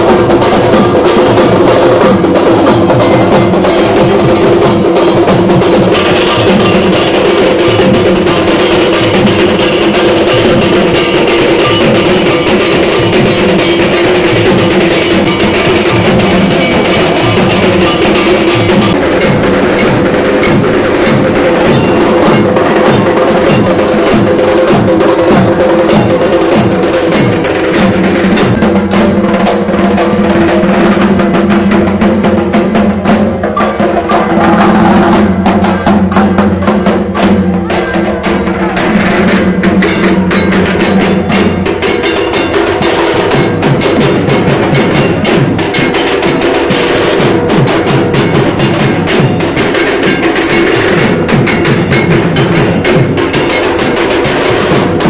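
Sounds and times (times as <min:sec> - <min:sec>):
barrel drum dance beat: 0:00.0 - 0:55.0.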